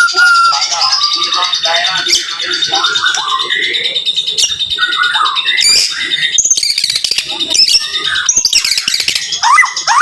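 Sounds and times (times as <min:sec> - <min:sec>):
bird singing rapid varied notes: 0:00.0 - 0:10.0.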